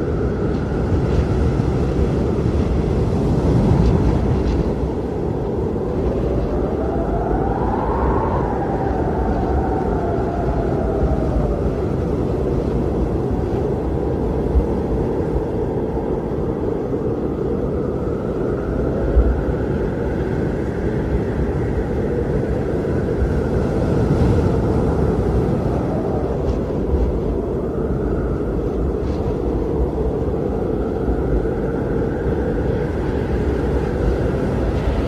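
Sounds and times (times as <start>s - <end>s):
faint howling wind tone: 0.0s - 35.0s
strong blizzard wind: 0.0s - 35.0s.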